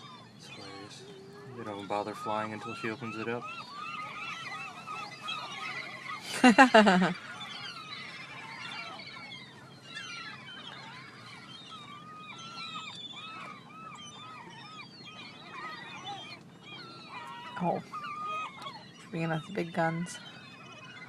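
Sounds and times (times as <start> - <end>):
seagulls calling: 0.0 - 21.0.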